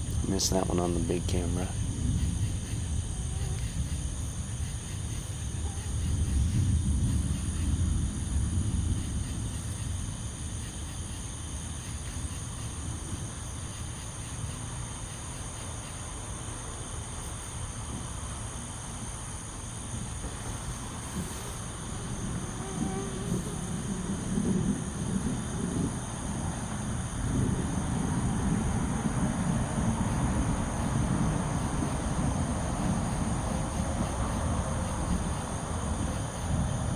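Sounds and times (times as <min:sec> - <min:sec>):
distant thunder rumbling: 0:00.0 - 0:15.6, 0:18.8 - 0:36.9
crickets chirping: 0:00.0 - 0:36.9.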